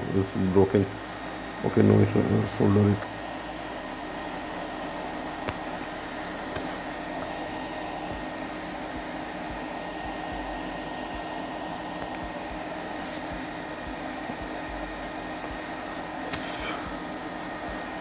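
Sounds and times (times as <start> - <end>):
fan whirring air: 0.0 - 18.0.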